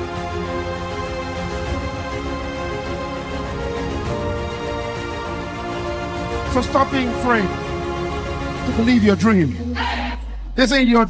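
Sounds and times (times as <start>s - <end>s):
music with sustained chords: 0.0s - 9.8s.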